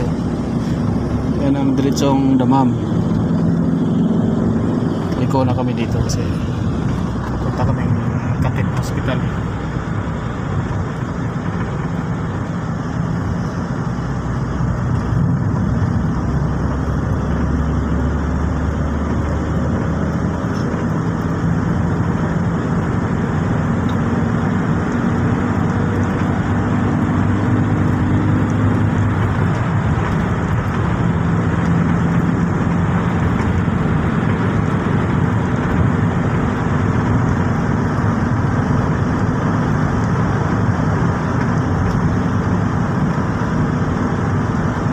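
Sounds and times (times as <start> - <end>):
car engine low drone: 0.0 - 44.9
tyres on the road: 0.0 - 44.9.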